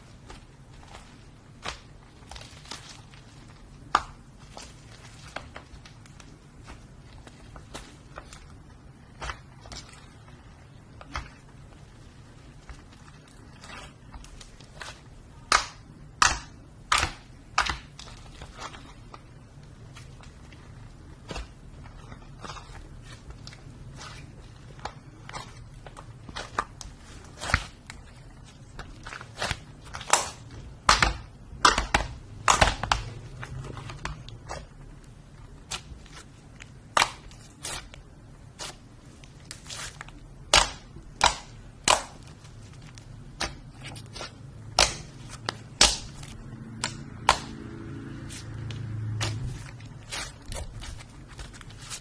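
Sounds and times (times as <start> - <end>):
slime popping and crackling: 0.2 - 47.7.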